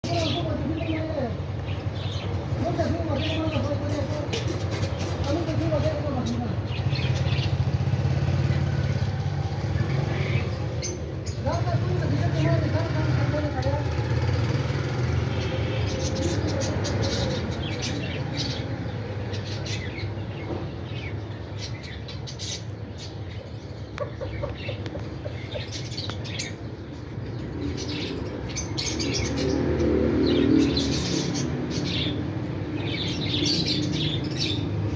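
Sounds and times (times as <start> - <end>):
pet birds chirping: 0.0 - 34.9.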